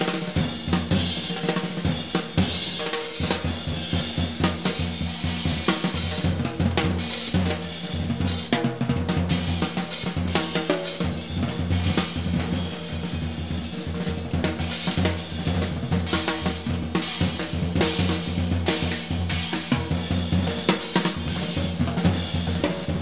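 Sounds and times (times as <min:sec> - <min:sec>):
jazz drum kit: 0:00.0 - 0:23.0.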